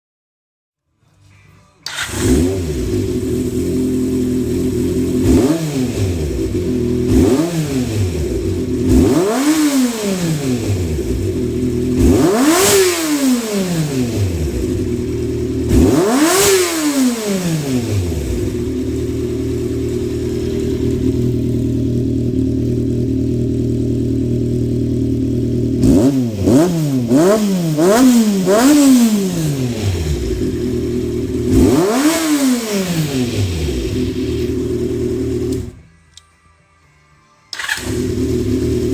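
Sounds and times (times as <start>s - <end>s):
engine throttle blips: 1.8s - 35.9s
motorcycle engine idling: 1.8s - 35.9s, 37.6s - 38.9s.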